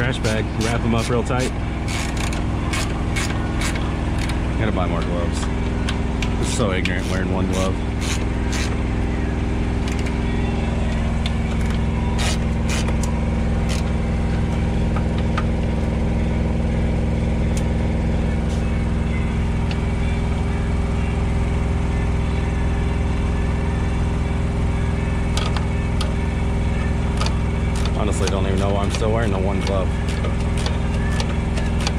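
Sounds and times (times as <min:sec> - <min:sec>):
engine idling: 0:00.0 - 0:31.9.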